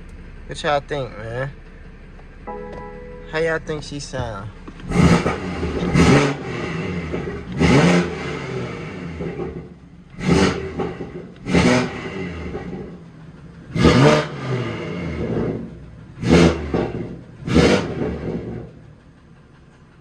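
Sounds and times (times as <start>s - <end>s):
car engine revving: 0.0s - 19.6s
car engine idling: 0.0s - 20.0s.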